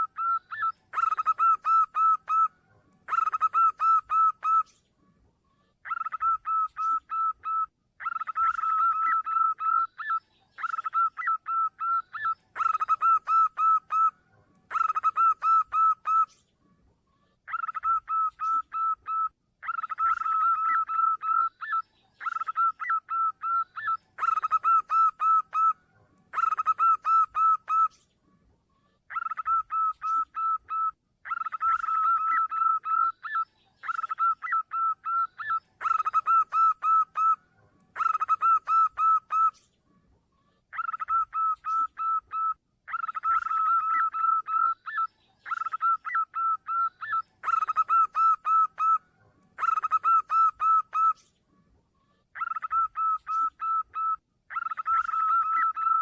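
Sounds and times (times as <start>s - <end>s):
dove cooing: 0.0s - 4.8s, 5.8s - 16.4s, 17.5s - 28.0s, 29.1s - 39.6s, 40.7s - 51.3s, 52.4s - 56.0s.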